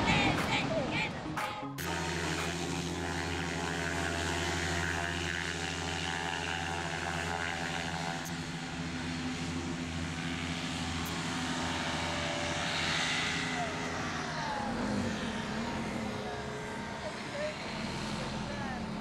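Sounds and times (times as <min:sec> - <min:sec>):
distant paramotor engine drone: 0:00.0 - 0:19.0.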